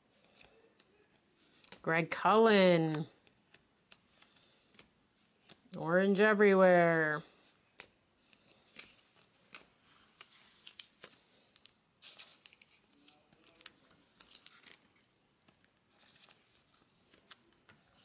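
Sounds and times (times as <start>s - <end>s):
cards rustling and clicking: 0.1s - 1.8s, 2.8s - 5.8s, 7.4s - 18.0s.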